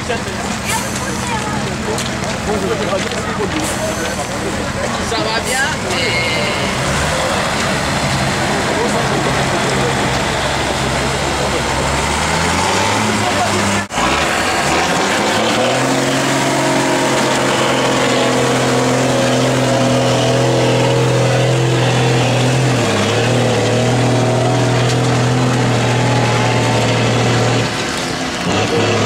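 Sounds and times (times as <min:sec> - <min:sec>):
diesel engine at high revs: 0:00.0 - 0:29.0.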